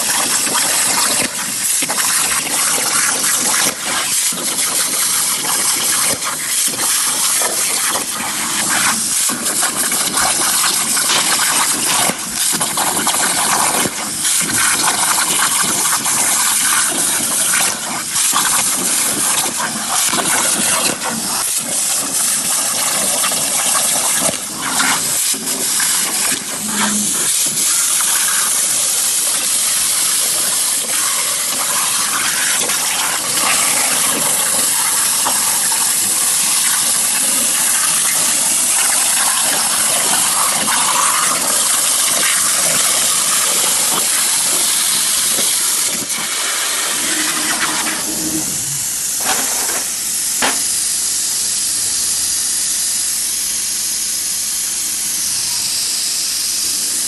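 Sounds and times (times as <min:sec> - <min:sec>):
plasma torch cutting metal: 0:00.0 - 0:53.2.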